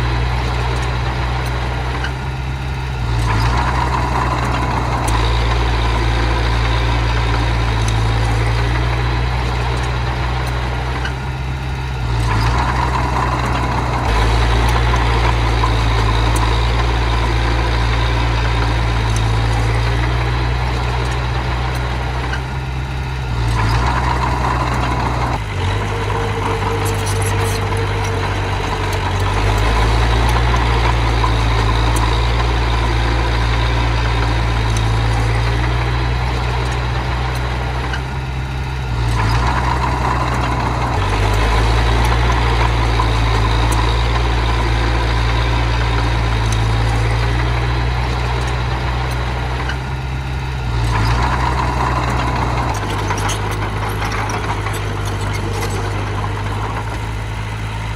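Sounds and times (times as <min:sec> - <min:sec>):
bulldozer engine running: 0:00.0 - 0:57.9.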